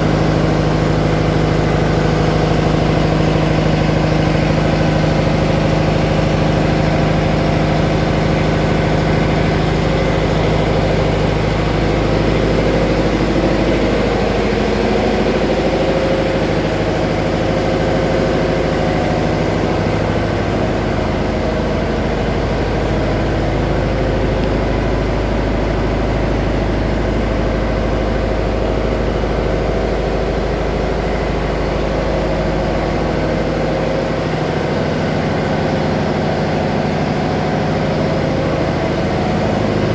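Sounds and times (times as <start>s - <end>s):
engine room machinery drone: 0.0s - 39.9s.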